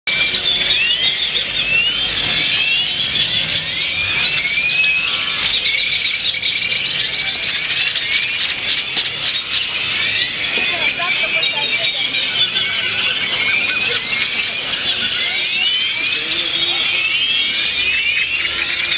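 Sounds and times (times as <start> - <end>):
flock of birds chirping: 0.1 - 18.9.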